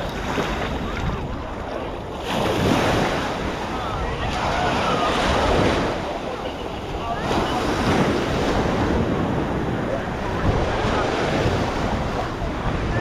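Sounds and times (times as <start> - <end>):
surf washing onto sandy beach: 0.0 - 13.0
wind buffeting microphone: 0.0 - 13.0.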